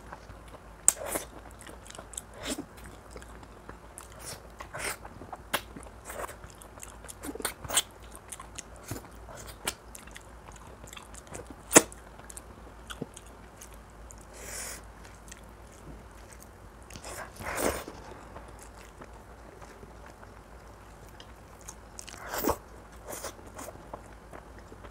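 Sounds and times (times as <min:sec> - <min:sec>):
person chewing food: 0:00.0 - 0:24.9.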